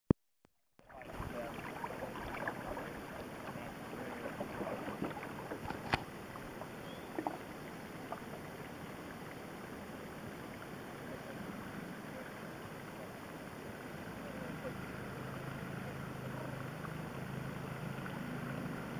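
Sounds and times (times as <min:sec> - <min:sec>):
water rushing along kayak hull: 0:00.8 - 0:18.9.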